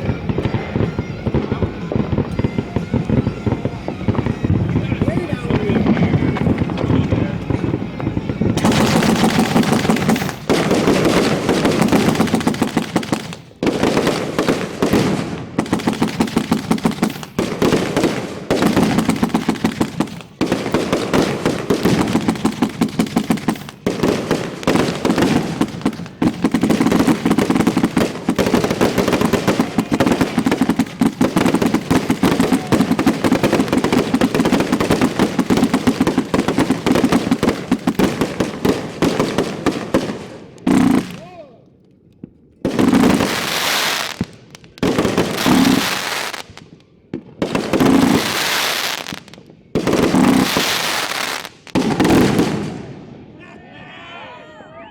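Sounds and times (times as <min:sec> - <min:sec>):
fireworks bangs: 0:00.0 - 0:41.5, 0:42.1 - 0:53.4.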